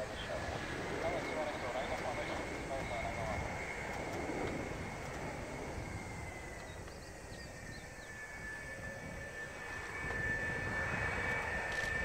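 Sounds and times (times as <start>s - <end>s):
distant jet engine rumble: 0.0s - 12.0s
high jet whine: 0.0s - 12.0s.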